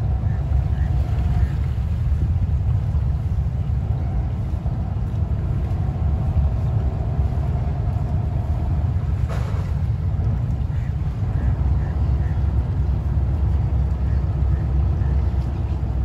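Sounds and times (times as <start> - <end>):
boat diesel engine rumbling: 0.0 - 16.0.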